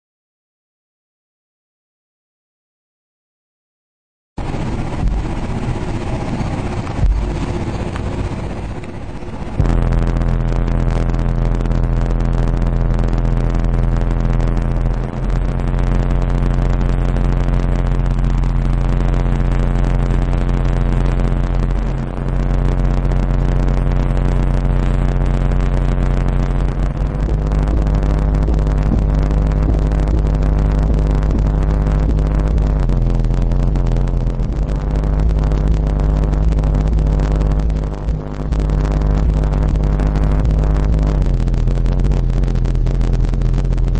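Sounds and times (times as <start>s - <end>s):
subwoofers playing deep bass: 4.9s - 6.0s, 6.8s - 43.9s.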